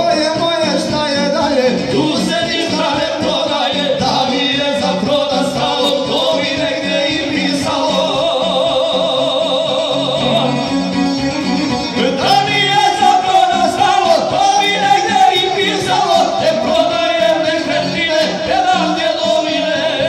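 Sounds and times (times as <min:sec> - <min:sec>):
men singing folk song: 0:00.0 - 0:20.0
plucked string instrument: 0:00.0 - 0:20.0
violin: 0:00.0 - 0:20.0.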